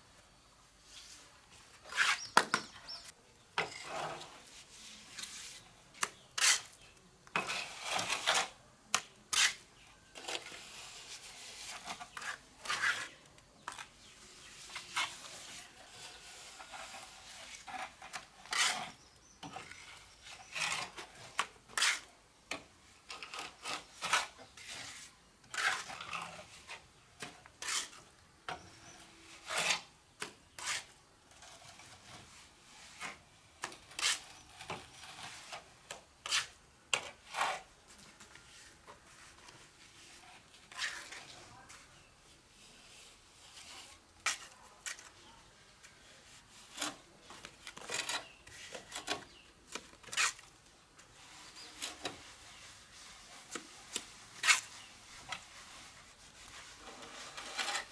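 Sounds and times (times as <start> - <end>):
trowel scraping mortar on brick: 1.8 - 37.8, 38.4 - 41.4, 46.0 - 57.9.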